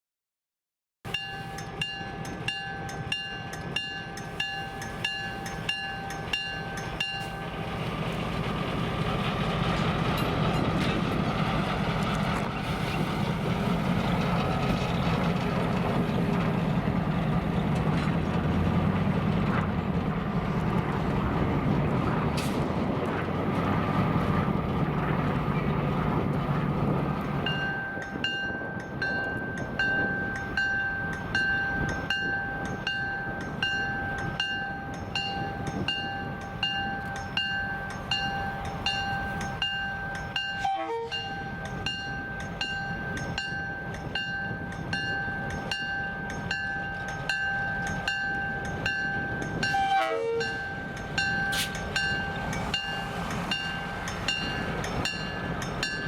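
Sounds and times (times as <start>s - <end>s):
diesel locomotive running: 1.1s - 56.0s
rail noise: 1.1s - 56.0s.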